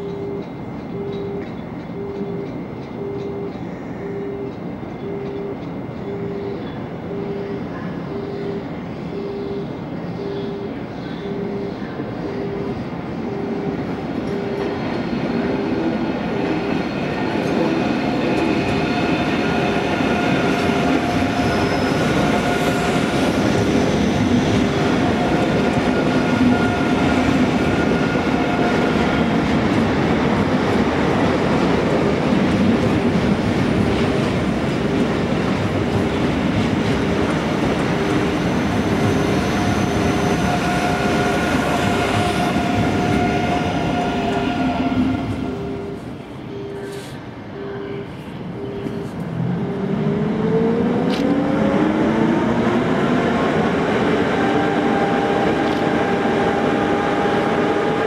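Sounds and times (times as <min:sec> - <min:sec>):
train whine: 0:00.0 - 0:58.0.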